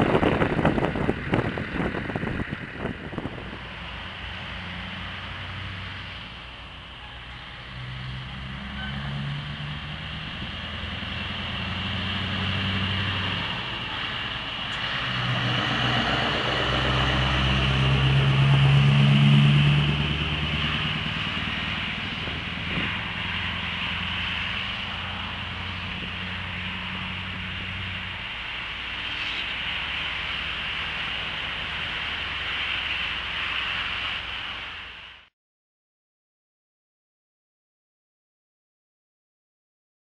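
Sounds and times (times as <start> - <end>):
heavy truck driving past: 0.0 - 35.3.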